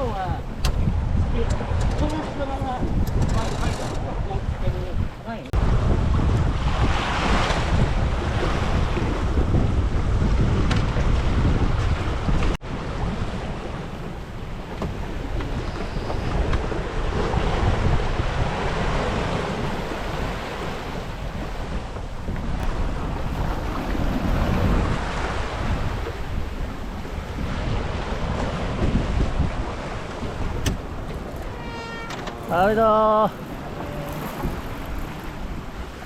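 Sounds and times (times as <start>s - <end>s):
water splashing along hull: 0.0s - 36.0s
wind buffeting microphone: 0.0s - 36.0s.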